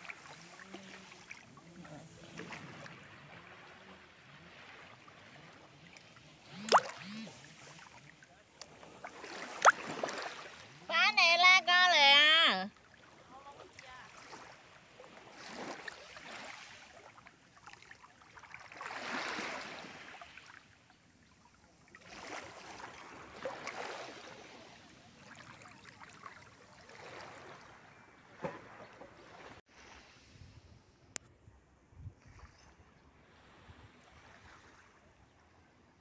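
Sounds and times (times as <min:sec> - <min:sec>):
small waves lapping: 0:00.0 - 0:36.0.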